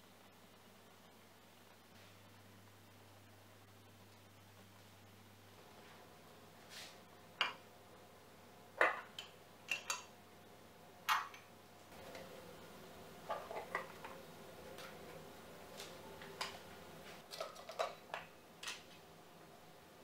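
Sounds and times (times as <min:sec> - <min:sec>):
faint steady background: 0:00.0 - 0:20.0.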